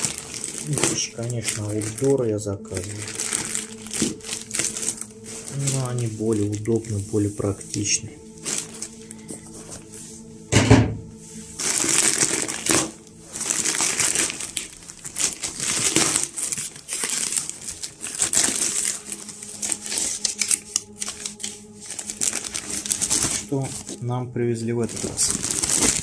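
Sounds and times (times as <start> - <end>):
plastic mailer bag crinkling: 0.0 - 9.9, 11.4 - 24.0, 24.7 - 26.0.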